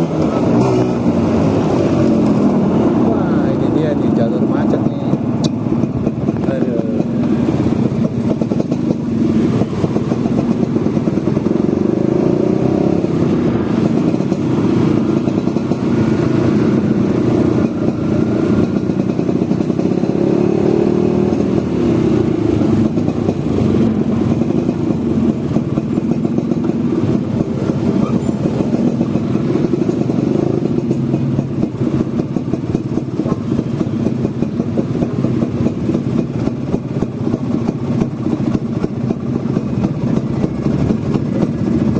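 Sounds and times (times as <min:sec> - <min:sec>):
scooter engine running: 0:00.0 - 0:41.9.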